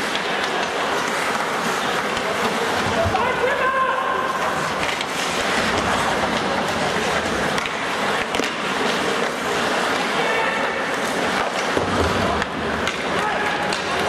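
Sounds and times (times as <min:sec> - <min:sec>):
hockey sticks and puck clacking: 0:00.0 - 0:14.0
skates scraping on ice: 0:00.0 - 0:14.0.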